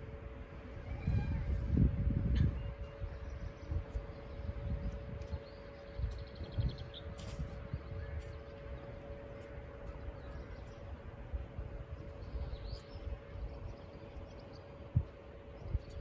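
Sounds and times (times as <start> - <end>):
faint steady hum: 0.0 - 16.0
wind rumbling on microphone: 0.0 - 16.0.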